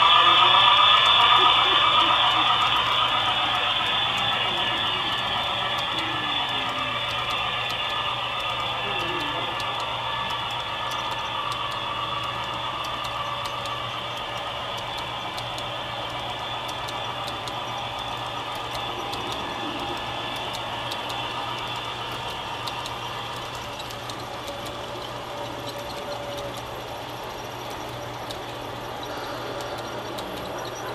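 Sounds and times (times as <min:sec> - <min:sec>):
diesel locomotive low hum: 0:00.0 - 0:30.9
rushing rattle: 0:00.0 - 0:30.9
sharp clicks: 0:00.6 - 0:30.9.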